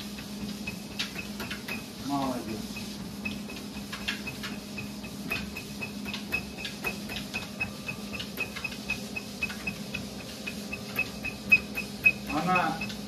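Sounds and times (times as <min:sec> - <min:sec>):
treadmill high ticking: 0:00.0 - 0:13.0
treadmill motor hum: 0:00.0 - 0:13.0.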